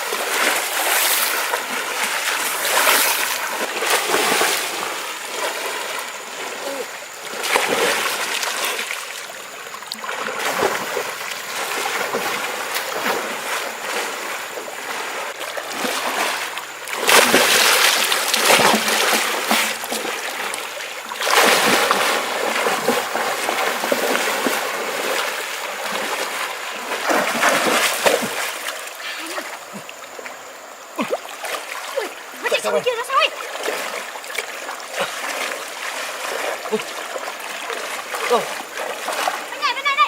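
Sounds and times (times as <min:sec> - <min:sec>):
water splashing and trickling: 0:00.0 - 0:40.0.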